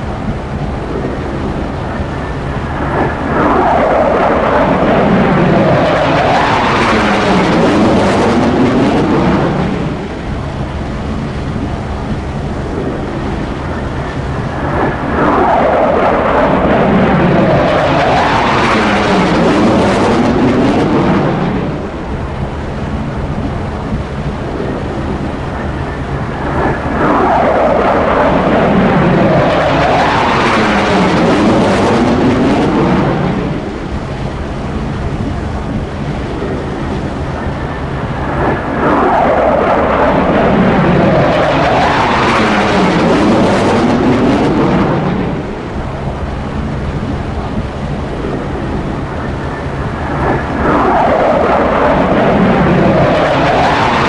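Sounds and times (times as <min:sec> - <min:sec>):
jet engine whooshing past: 0:00.0 - 0:54.0
low rumble: 0:00.0 - 0:54.0.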